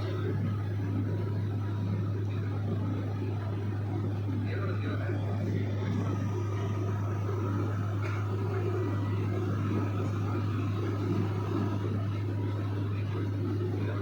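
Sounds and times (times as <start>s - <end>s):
small airplane engine drone: 0.0s - 14.0s.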